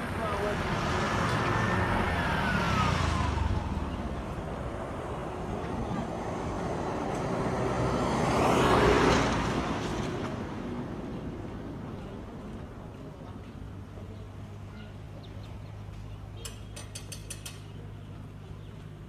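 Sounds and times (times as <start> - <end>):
vehicles passing by: 0.0 - 19.0.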